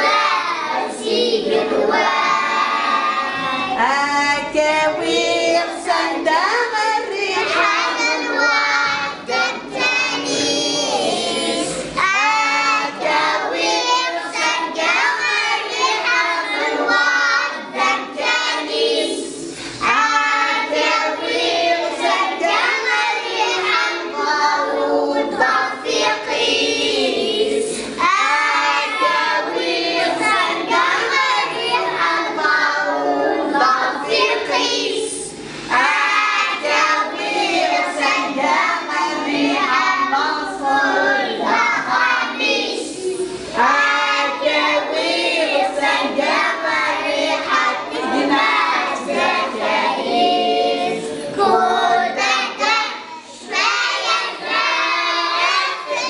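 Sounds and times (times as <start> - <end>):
children singing together: 0.0 - 56.0.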